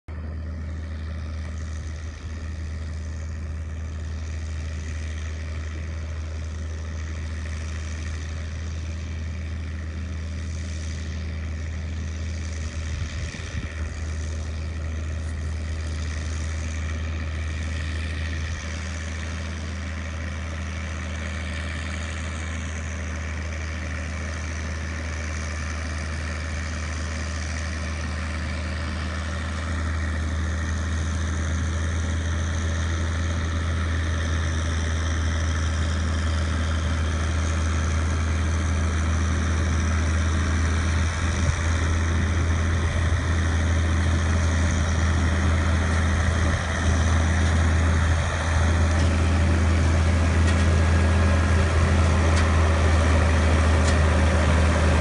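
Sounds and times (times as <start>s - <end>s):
engine running steadily: 0.1s - 55.0s.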